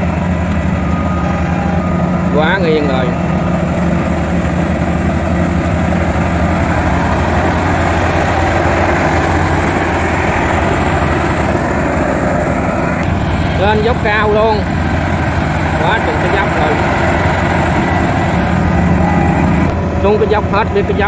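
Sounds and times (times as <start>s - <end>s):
combine harvester engine droning: 0.0s - 21.0s.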